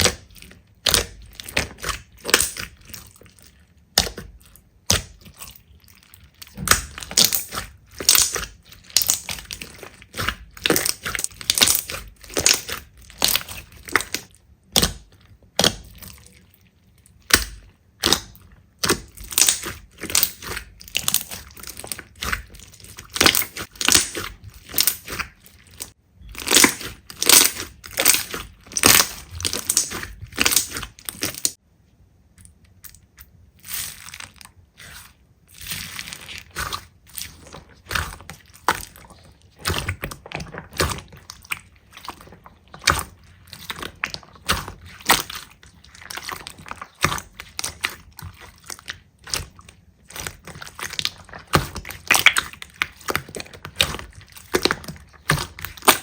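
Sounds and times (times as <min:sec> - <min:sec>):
slime crackling and popping: 0:00.0 - 0:16.4, 0:17.1 - 0:31.6, 0:32.7 - 0:56.0.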